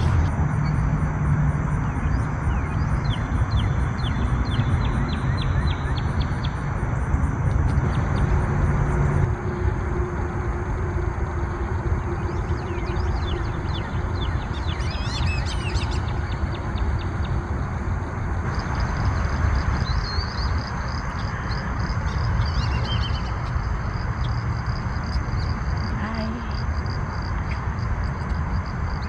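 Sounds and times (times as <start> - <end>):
small birds chirping: 0.0 - 9.3, 12.2 - 29.0
loud steady low rumble: 0.0 - 29.0.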